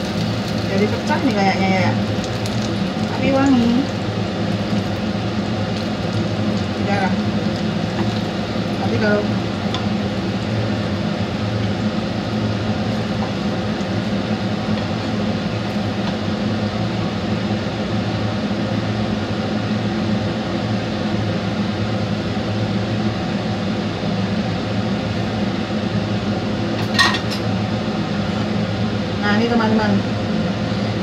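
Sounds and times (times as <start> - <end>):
kitchen fan humming: 0.0 - 31.0.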